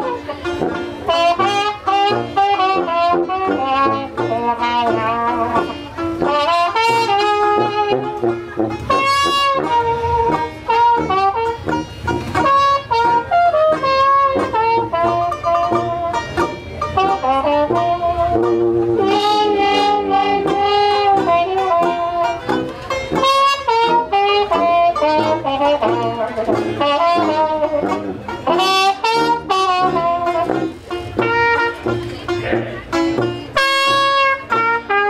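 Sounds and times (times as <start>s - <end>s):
saxophone: 0.0s - 35.0s
sousaphone bass line: 0.0s - 35.0s
trumpet melody: 0.0s - 35.0s.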